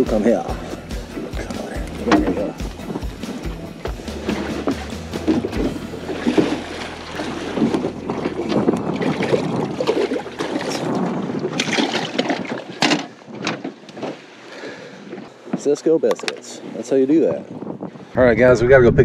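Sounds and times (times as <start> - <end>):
wind buffeting microphone: 0.0 - 14.4, 16.5 - 19.0
water slapping boat hull: 0.0 - 16.5.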